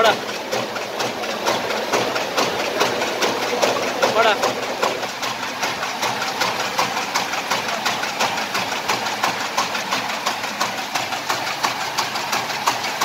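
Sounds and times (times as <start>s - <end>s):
paper bag machine clattering: 0.0s - 13.0s.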